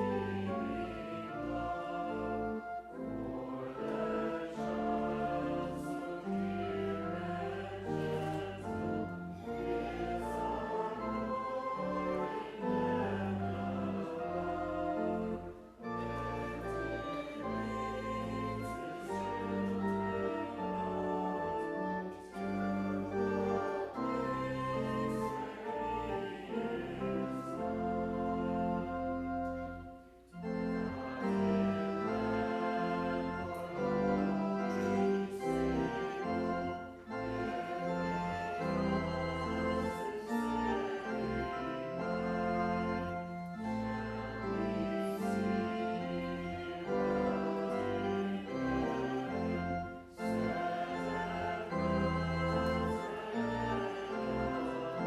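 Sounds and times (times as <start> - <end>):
organ chords: 0.0 - 55.0.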